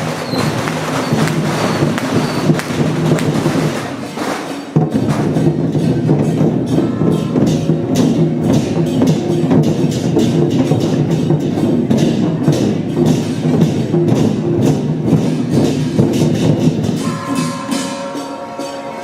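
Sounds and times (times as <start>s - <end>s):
cymbals crashing: 0.0s - 19.0s
drum beating: 0.0s - 19.0s
gongs: 0.0s - 19.0s.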